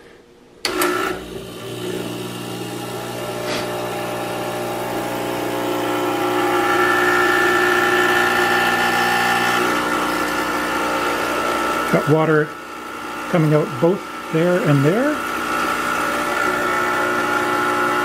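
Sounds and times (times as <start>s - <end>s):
espresso machine pump buzzing: 0.6s - 18.0s.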